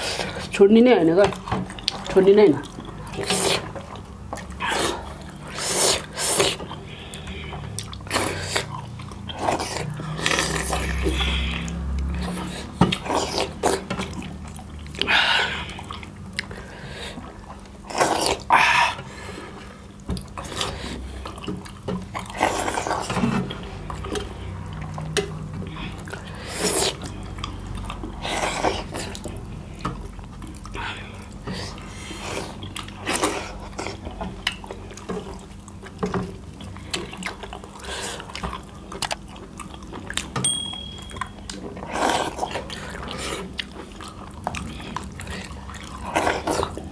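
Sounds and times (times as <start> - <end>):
slurping and chewing: 1.3 - 40.4, 41.0 - 46.9.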